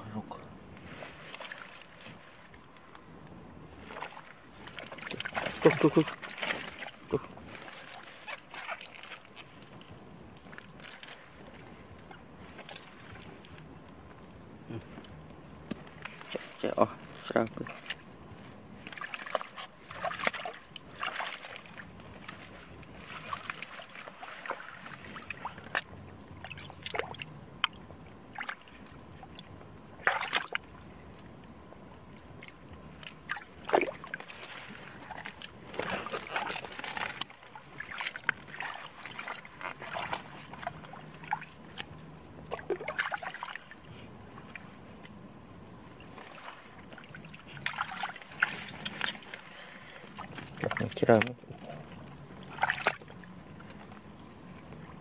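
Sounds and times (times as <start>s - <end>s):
splashing in muddy water: 0.8s - 3.0s, 3.6s - 13.7s, 14.6s - 55.0s.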